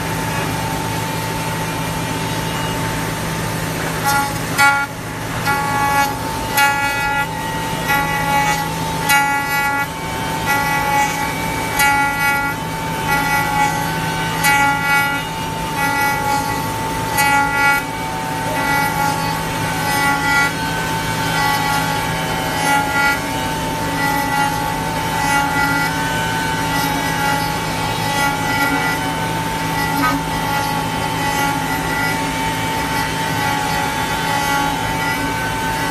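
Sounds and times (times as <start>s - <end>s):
router spindle whining: 0.0s - 35.9s
bit cutting wood tones: 2.2s - 35.9s.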